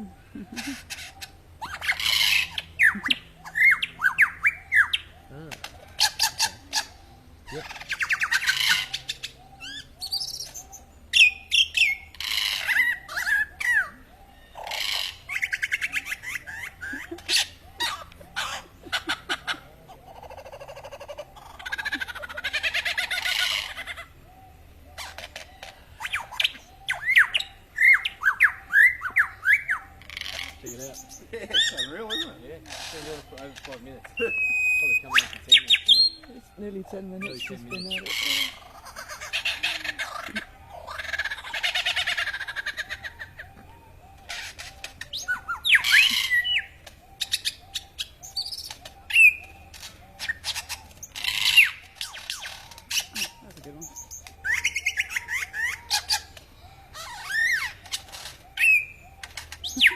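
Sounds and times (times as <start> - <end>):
lyrebird singing: 0.0 - 59.9.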